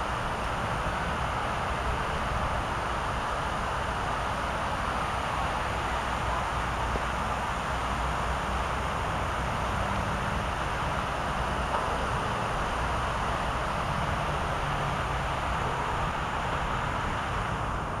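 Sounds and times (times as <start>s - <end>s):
fountain jets splashing: 0.0s - 18.0s.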